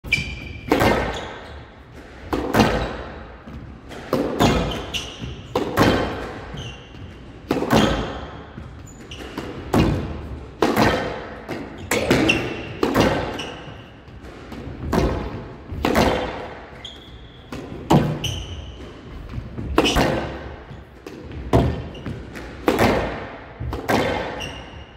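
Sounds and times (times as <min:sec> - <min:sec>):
shoes squeaking on court: 0:00.0 - 0:10.2, 0:11.6 - 0:22.4, 0:24.0 - 0:24.9
squash ball hitting rackets and walls: 0:00.0 - 0:24.9.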